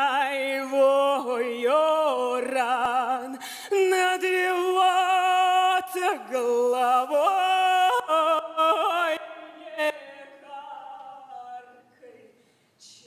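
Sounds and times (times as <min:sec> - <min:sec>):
woman singing folk song: 0:00.0 - 0:13.0.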